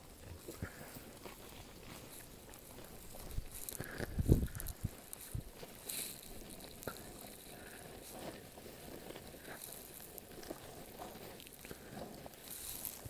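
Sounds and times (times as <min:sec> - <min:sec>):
calves tearing and chewing grass: 0:00.0 - 0:13.0.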